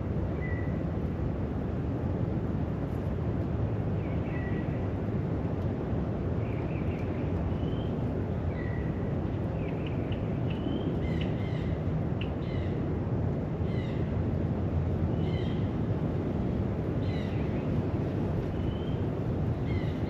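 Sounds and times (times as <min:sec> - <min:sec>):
low outdoor background rumble: 0:00.0 - 0:20.0.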